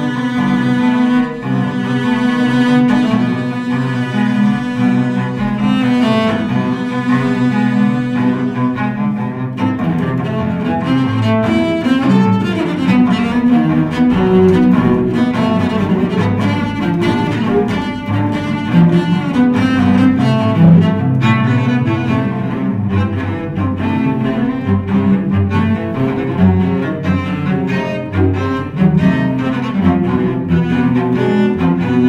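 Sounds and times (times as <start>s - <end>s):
bowed cello duet: 0.0s - 32.0s.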